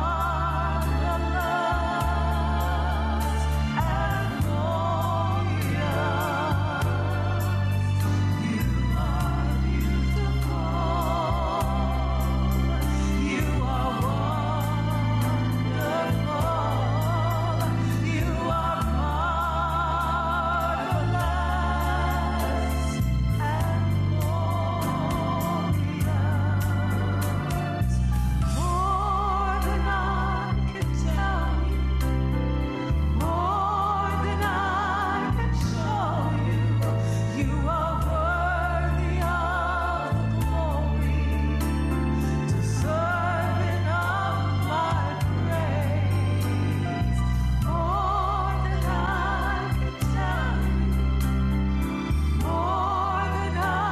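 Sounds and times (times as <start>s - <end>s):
singer with vibrato: 0.0s - 32.0s, 33.0s - 51.2s
organ and bass chords: 0.0s - 53.9s.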